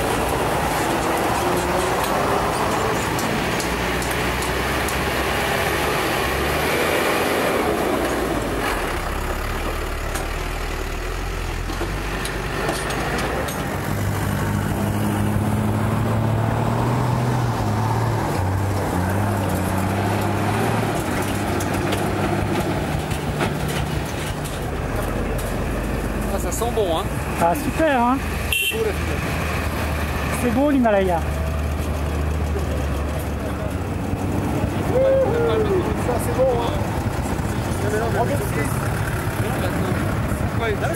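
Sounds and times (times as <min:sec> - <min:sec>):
road and wind rush: 0:00.0 - 0:40.9.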